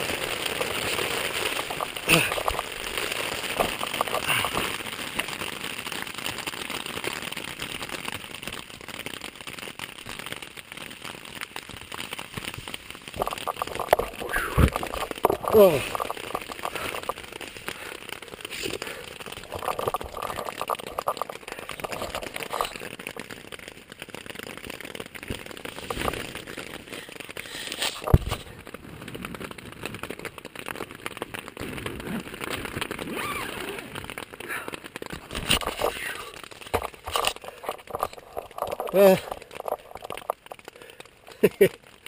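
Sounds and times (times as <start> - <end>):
heavy rain on a tent: 0.0 - 42.0.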